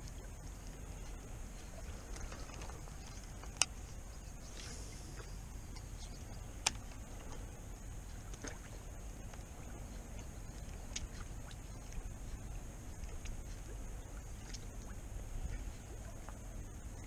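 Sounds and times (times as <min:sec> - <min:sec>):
water lapping on rocky shore: 0:00.0 - 0:17.0.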